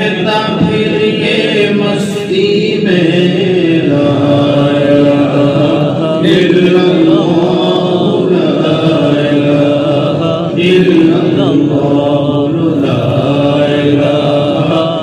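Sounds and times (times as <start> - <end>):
man chanting devotional song: 0.0 - 15.0.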